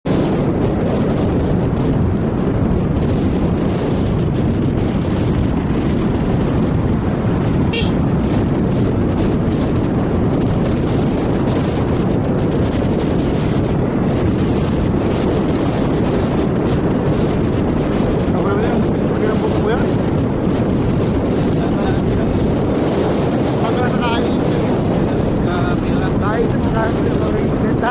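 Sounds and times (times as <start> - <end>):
wind rushing over microphone: 0.0 - 27.9
motorcycle running: 3.8 - 26.2.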